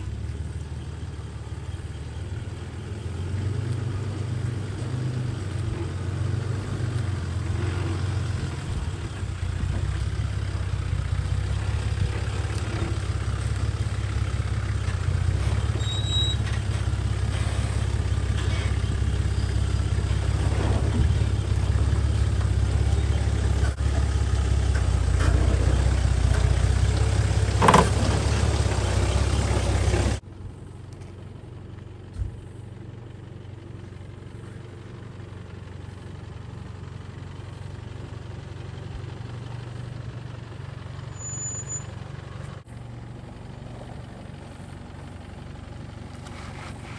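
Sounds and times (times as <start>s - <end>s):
engine running at low revs: 0.0s - 46.9s.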